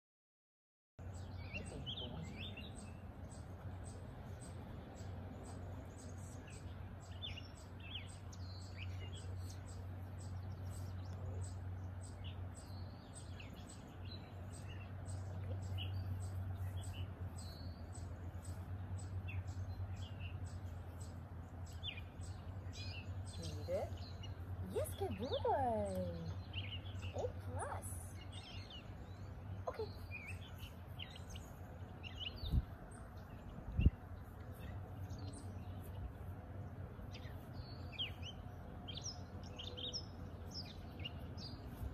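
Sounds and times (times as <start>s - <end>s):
songbirds chirping: 1.0s - 41.9s
steady low hum: 1.0s - 41.9s.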